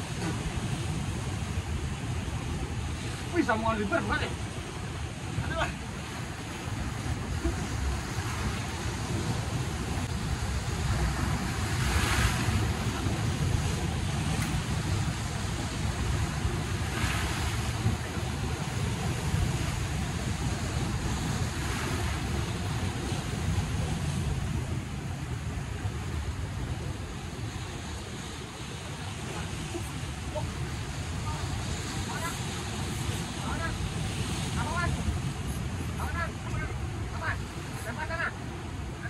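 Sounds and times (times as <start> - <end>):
surf breaking over rocks: 0.0 - 39.0.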